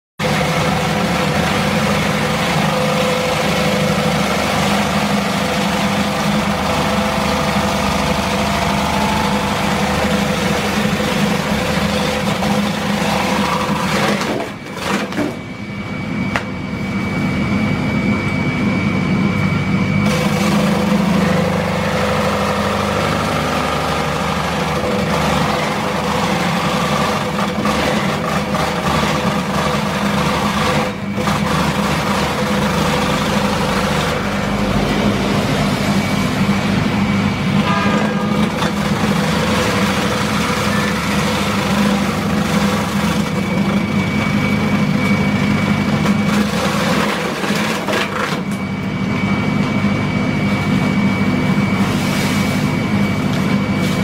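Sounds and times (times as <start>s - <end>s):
slicing machine motor humming: 0.2s - 15.5s, 20.0s - 49.9s.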